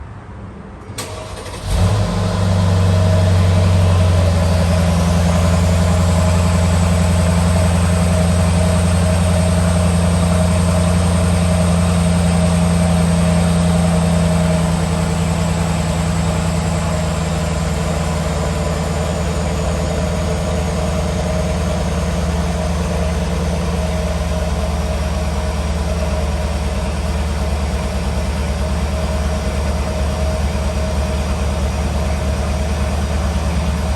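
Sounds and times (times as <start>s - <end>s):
car engine idling: 1.0s - 33.9s.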